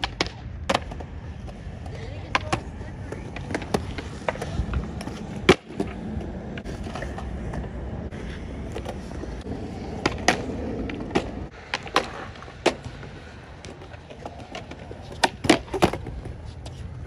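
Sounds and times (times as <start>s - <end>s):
skateboard clacking on concrete: 0.0s - 17.0s
skateboard wheels rolling on concrete: 0.0s - 17.0s.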